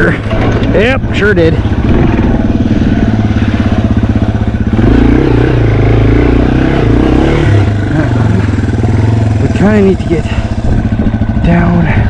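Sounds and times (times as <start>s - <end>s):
motorcycle engine pulling at low revs: 0.0s - 12.0s.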